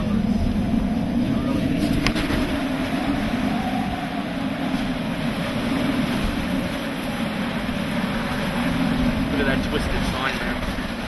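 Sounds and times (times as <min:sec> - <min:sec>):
wavering wind howl: 0:00.0 - 0:11.0
wind and rain beating on vehicle: 0:00.0 - 0:11.0.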